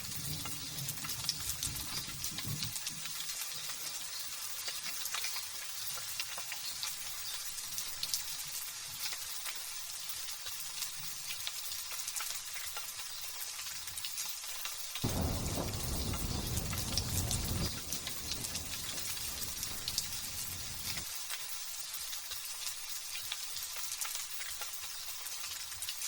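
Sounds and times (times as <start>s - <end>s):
light drizzle pattering: 0.0s - 26.0s.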